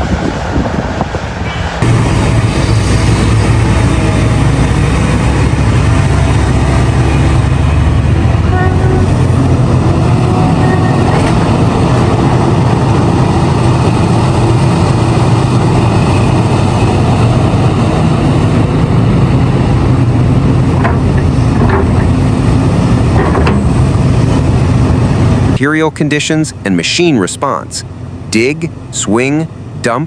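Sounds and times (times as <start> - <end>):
diesel excavator engine droning: 0.0 - 30.0.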